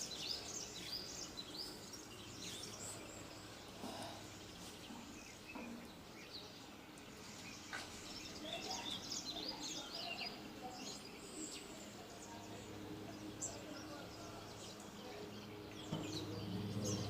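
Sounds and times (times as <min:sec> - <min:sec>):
low background hum: 0:00.0 - 0:17.0
small birds chirping: 0:00.0 - 0:17.0.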